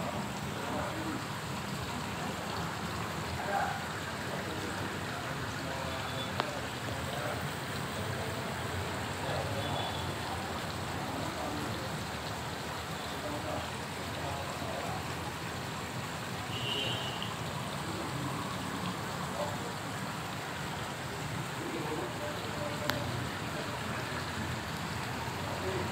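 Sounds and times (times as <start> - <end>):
faint voices: 0.0 - 25.9
running water rushing: 0.0 - 25.9.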